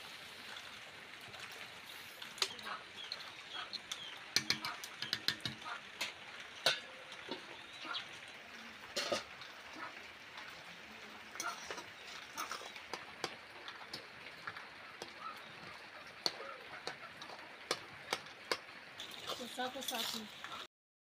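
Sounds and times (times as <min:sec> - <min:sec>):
faint sizzle: 0:00.0 - 0:18.0.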